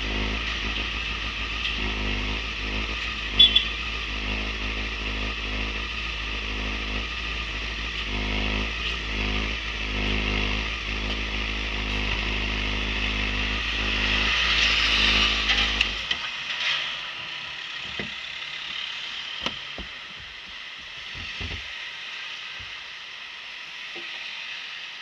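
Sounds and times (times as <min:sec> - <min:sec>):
motorcycle engine running: 0:00.0 - 0:16.4, 0:17.2 - 0:23.0
steady hiss: 0:00.0 - 0:25.0.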